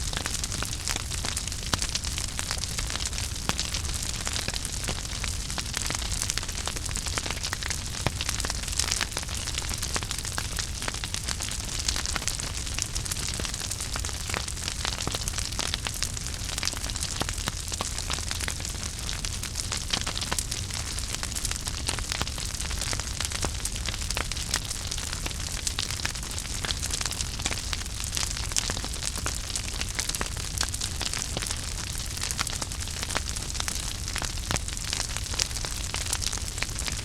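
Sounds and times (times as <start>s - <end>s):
low fire rumble: 0.0s - 37.0s
wood fire crackling and popping: 0.0s - 37.0s.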